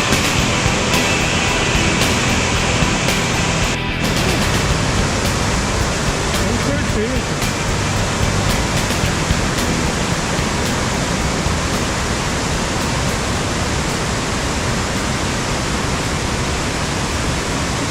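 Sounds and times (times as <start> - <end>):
waterfall roaring: 0.0 - 17.9.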